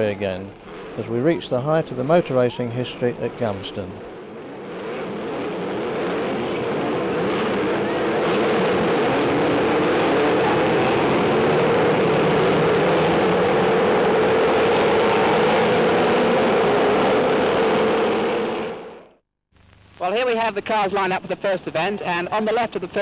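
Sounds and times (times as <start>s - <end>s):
racing car engines: 0.0s - 19.2s.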